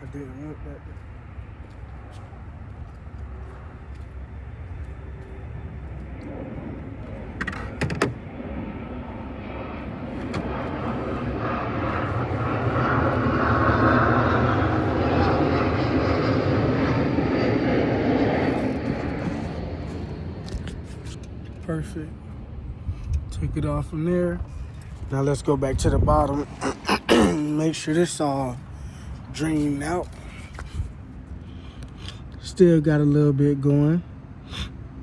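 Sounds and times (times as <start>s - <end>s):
aircraft passing overhead: 0.0s - 35.0s.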